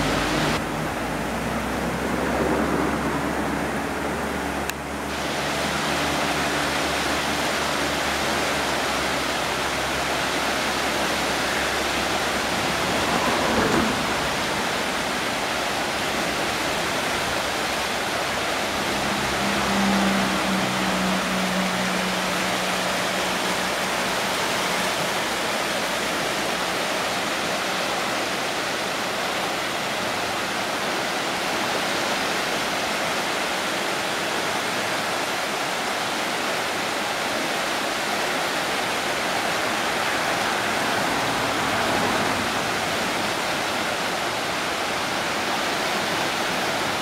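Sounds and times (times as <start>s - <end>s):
flooded creek water rushing: 0.0s - 47.0s.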